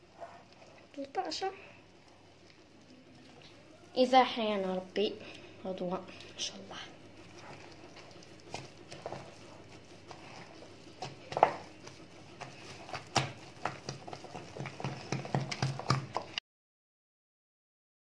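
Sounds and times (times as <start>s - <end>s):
hand squelching wet dough: 0.0s - 16.4s.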